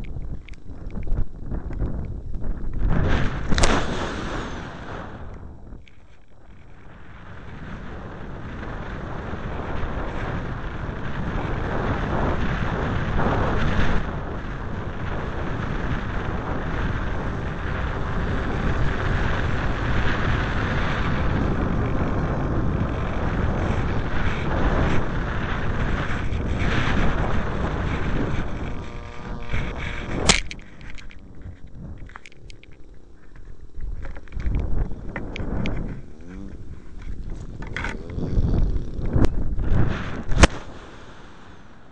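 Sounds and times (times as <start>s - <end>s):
wind noise over camera: 0.0s - 41.9s.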